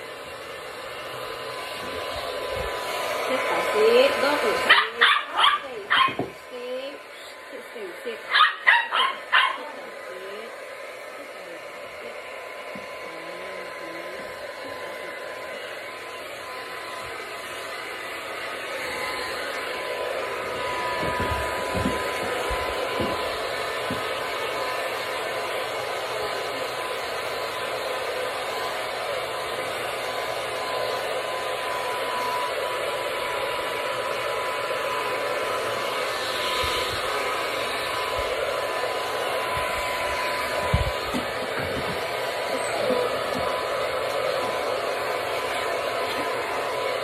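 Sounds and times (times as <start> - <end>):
hair dryer running: 0.0 - 47.0.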